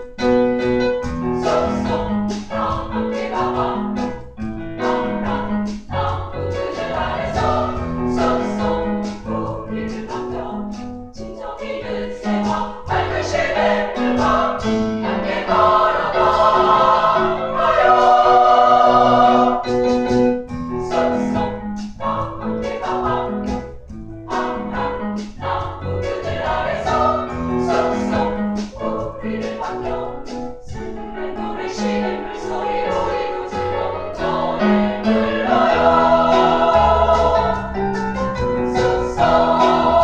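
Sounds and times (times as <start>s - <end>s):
piano accompaniment: 0.0s - 40.0s
women's choir singing: 1.4s - 4.2s, 4.8s - 19.8s, 20.9s - 23.6s, 24.3s - 37.8s, 38.8s - 40.0s.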